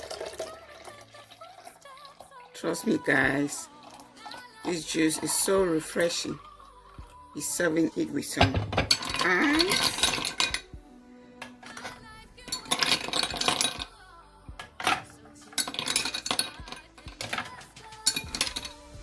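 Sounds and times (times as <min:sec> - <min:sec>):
ice cubes clinking in glass: 0:00.0 - 0:06.4, 0:08.4 - 0:10.7, 0:11.5 - 0:13.9, 0:14.6 - 0:18.9
soft background music: 0:00.0 - 0:19.0.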